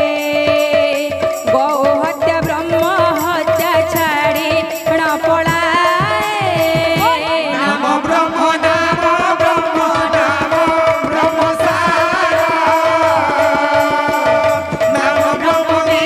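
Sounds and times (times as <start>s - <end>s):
woman singing through a microphone: 0.0s - 16.0s.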